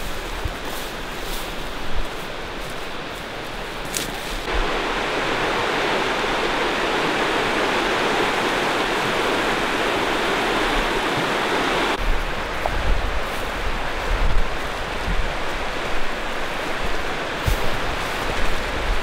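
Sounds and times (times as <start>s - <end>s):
river rushing over stones: 3.6s - 19.0s.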